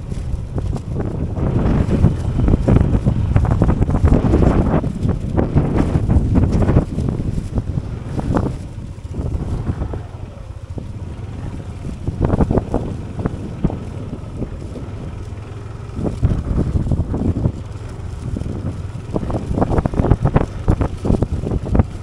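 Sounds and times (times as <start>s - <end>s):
low rumble: 0.0s - 22.0s
wind buffeting microphone: 0.0s - 22.0s.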